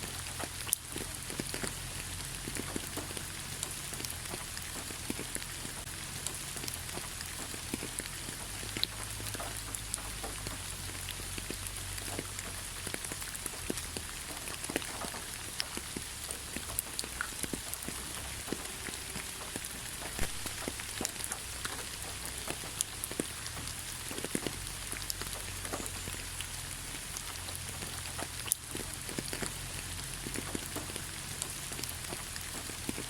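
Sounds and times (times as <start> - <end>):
raindrops ticking close by: 0.0 - 33.0
steady rain in forest: 0.0 - 33.0.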